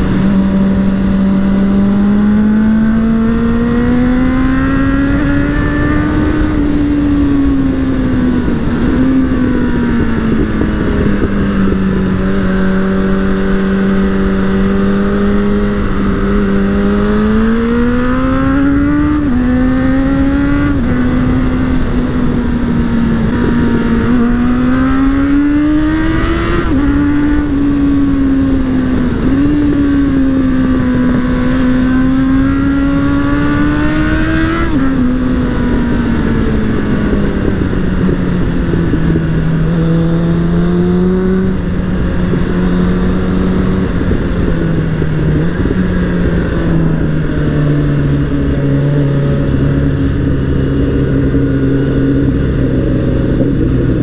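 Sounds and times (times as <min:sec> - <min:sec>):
motorcycle engine accelerating: 0:00.0 - 0:54.0
wind rush: 0:00.0 - 0:54.0.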